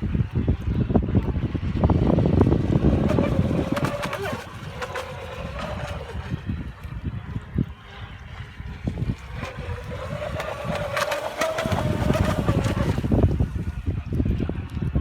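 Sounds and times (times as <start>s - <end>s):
wind buffeting microphone: 0.0s - 15.0s
electric motor whining: 1.7s - 14.0s.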